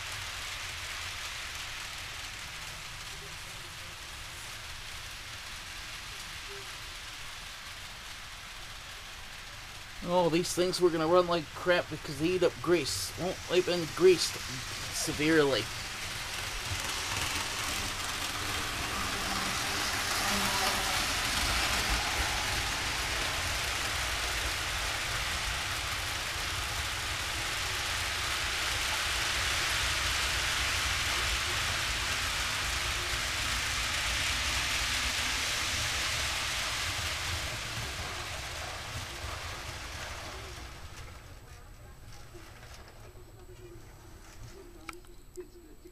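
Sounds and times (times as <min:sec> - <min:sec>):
model train rolling on track: 0:00.0 - 0:45.7.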